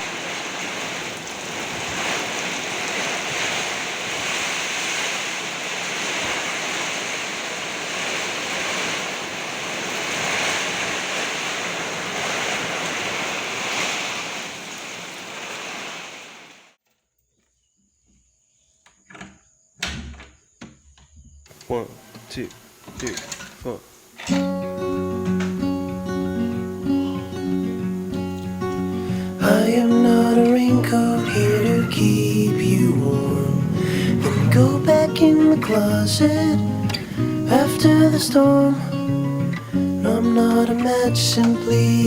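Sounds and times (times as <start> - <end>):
heavy rain pouring: 0.0 - 16.8, 21.5 - 42.0.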